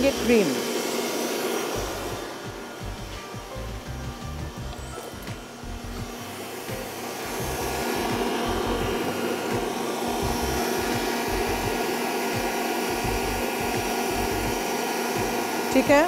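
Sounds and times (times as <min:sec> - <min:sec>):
electric mixer running: 0:00.0 - 0:16.0.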